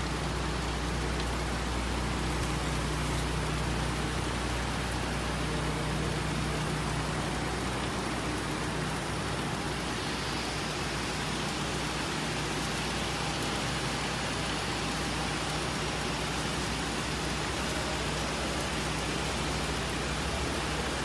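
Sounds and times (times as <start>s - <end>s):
conveyor hiss: 0.0s - 21.0s.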